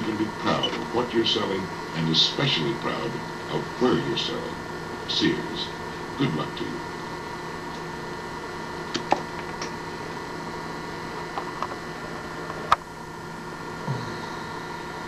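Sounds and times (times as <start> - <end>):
vinyl record hiss and hum: 0.0 - 15.0.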